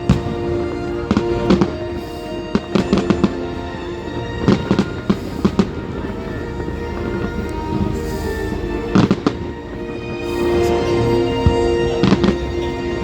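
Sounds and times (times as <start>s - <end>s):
fireworks bursting: 0.0s - 13.0s
music playing: 0.0s - 13.0s.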